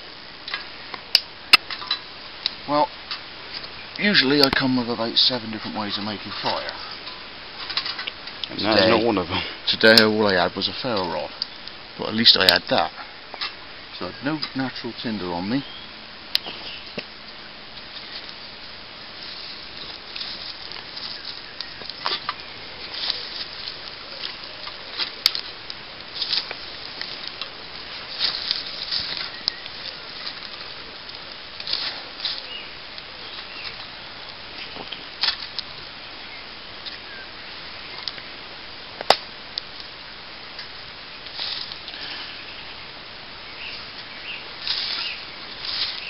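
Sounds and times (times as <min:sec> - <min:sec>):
fire crackling and snapping: 0:00.0 - 0:46.0
embers being moved by hand: 0:01.5 - 0:15.6, 0:16.4 - 0:36.0, 0:40.5 - 0:42.5, 0:43.7 - 0:46.0.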